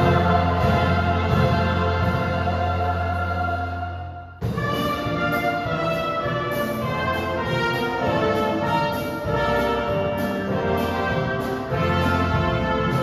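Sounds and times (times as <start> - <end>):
orchestra brass chords: 0.0 - 13.0.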